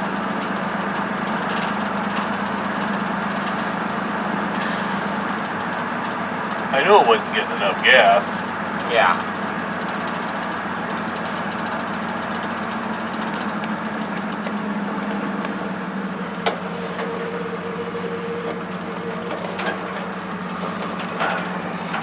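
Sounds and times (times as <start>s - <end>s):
engine and road drone: 0.0s - 22.0s.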